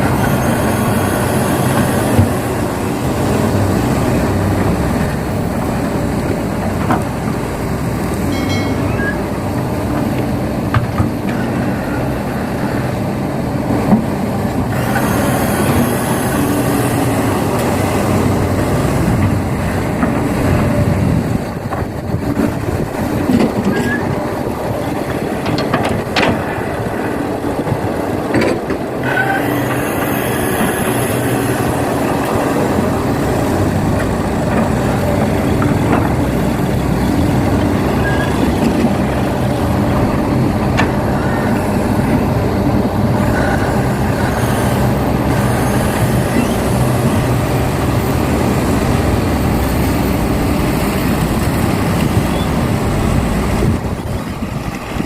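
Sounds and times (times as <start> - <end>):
heavy diesel engine rumbling: 0.0 - 55.0.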